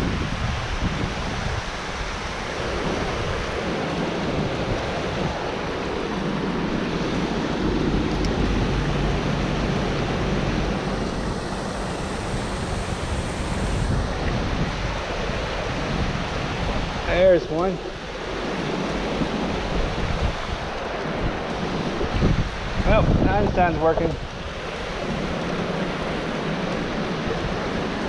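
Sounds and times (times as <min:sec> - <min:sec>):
water rushing through spillway: 0:00.0 - 0:28.0.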